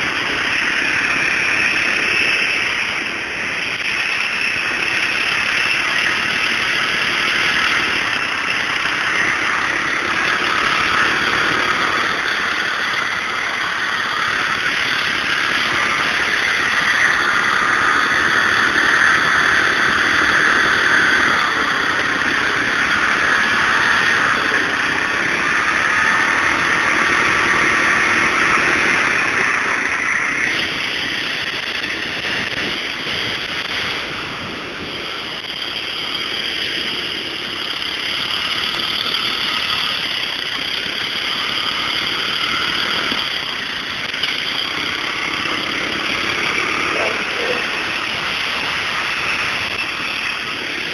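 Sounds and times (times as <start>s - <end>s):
garden tractor engine running: 0.0s - 50.9s.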